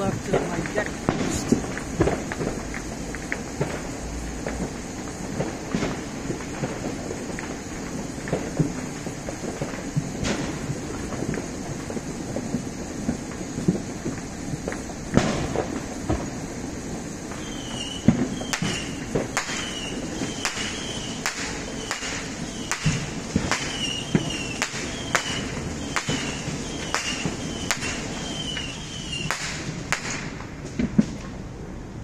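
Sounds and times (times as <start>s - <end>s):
distant fireworks bangs: 0.0s - 31.8s.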